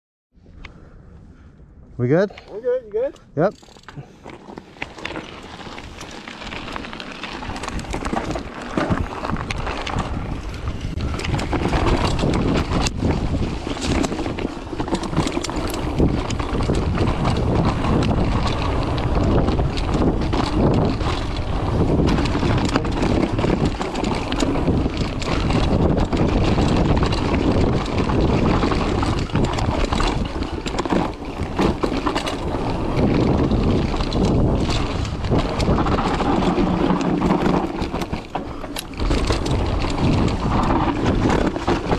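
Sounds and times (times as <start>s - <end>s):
bike clacking and rattling: 3.1s - 41.9s
tyres rumbling over dirt: 3.5s - 41.9s
wind buffeting microphone: 4.7s - 41.9s.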